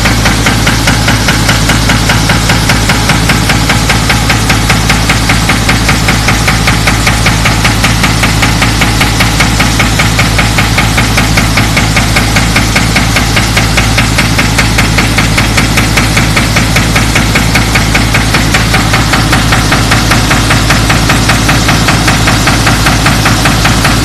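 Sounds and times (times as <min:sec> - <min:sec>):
diesel engine drone: 0:00.0 - 0:24.0
hydraulic breaker pounding concrete: 0:00.0 - 0:24.0.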